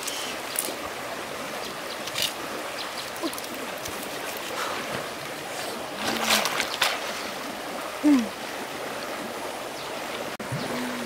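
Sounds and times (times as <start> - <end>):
stream water running: 0.0 - 11.0
water splashing: 0.0 - 11.0.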